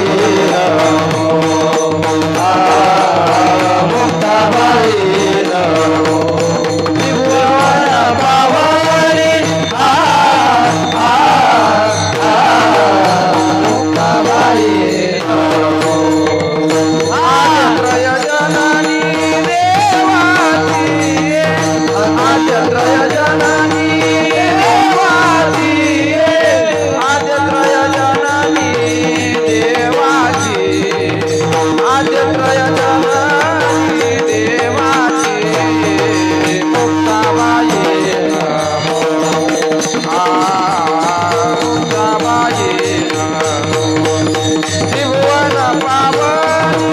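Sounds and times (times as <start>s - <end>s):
man singing devotional song: 0.0s - 46.9s.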